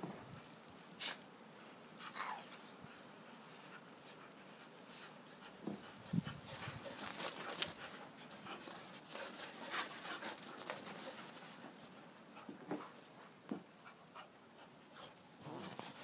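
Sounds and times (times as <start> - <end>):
dogs panting: 1.8 - 16.0.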